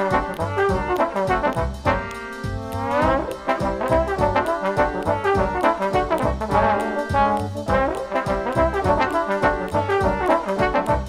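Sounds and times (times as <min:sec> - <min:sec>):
melody over a steady beat: 0:00.0 - 0:11.0.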